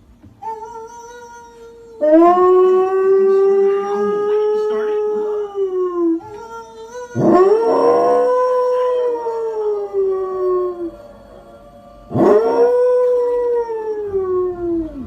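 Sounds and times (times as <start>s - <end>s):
dog howling: 0.4s - 15.0s.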